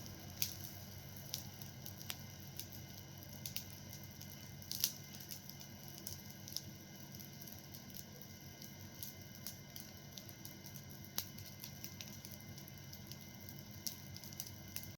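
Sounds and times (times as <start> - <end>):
fire crackling: 0.0 - 14.9
sharp pops from fire: 0.0 - 14.9.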